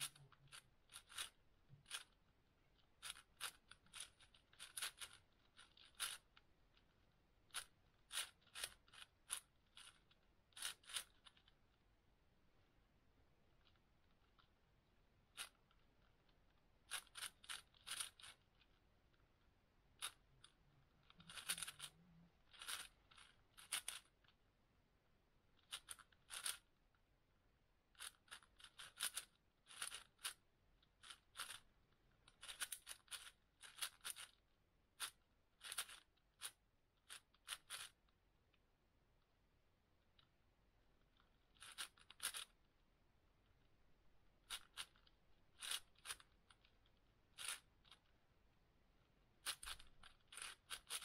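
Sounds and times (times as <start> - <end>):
puzzle cube layers turning: 0.0 - 11.8, 13.4 - 24.4, 25.5 - 26.8, 27.9 - 38.2, 40.0 - 48.2, 49.0 - 51.0.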